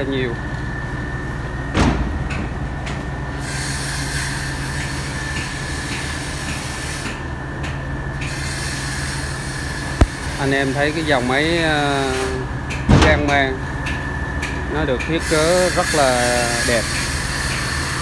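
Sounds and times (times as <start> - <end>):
high steady whine: 0.0 - 18.0
machinery drone with hum: 0.0 - 18.0.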